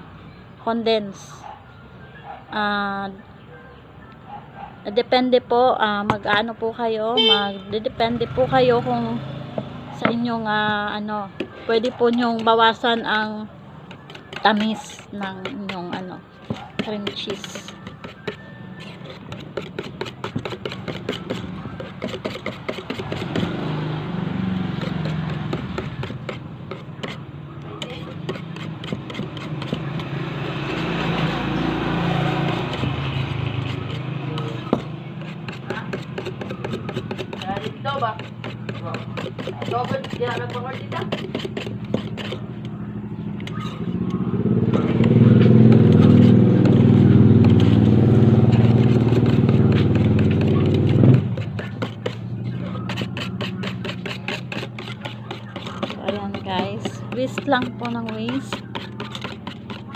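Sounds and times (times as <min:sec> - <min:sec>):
steady engine hum: 0:07.2 - 0:59.9.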